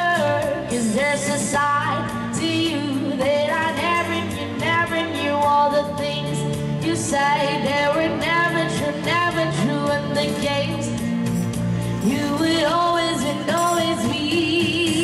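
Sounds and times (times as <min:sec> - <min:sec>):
karaoke backing track: 0:00.0 - 0:15.0
woman singing into a microphone: 0:00.0 - 0:15.0.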